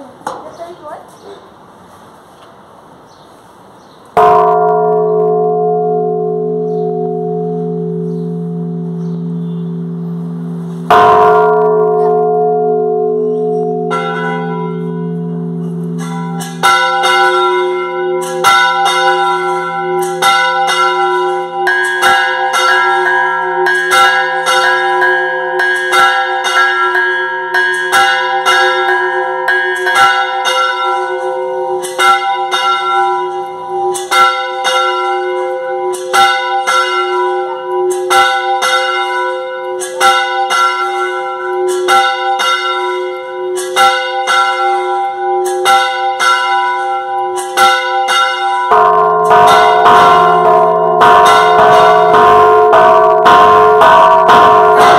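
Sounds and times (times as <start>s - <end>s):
church bells ringing: 4.1s - 54.9s.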